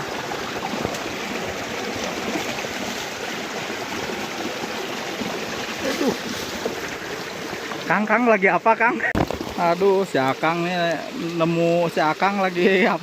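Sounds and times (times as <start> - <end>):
water flowing in a stream: 0.0 - 13.0.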